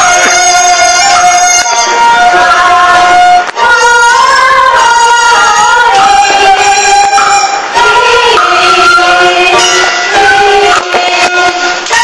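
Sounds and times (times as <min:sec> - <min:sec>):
bowed fiddle folk tune: 0:00.0 - 0:12.0.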